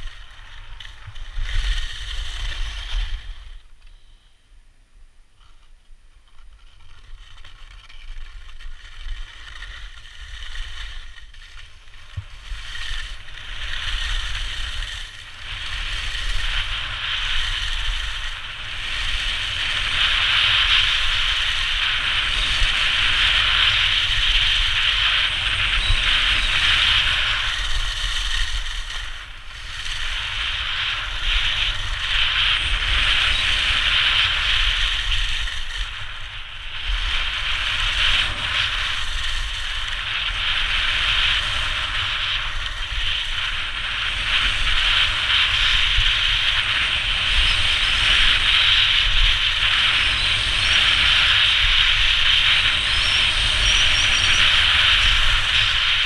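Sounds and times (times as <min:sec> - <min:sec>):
wind rumble on microphone: 0:00.0 - 0:03.9, 0:05.3 - 0:56.0
skis scraping on snow: 0:00.0 - 0:04.1, 0:06.4 - 0:56.0.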